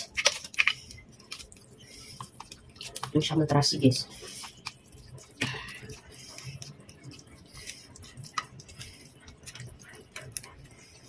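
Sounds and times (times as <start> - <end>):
wet noodles squishing: 0.0 - 11.0.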